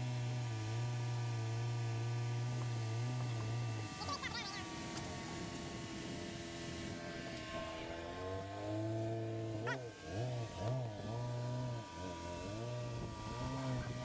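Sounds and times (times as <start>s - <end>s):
engine revving under load: 0.0s - 14.0s.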